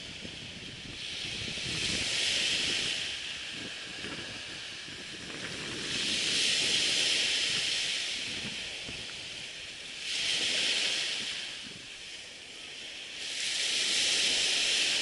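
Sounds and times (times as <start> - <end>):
surf hissing on beach: 0.0 - 15.0.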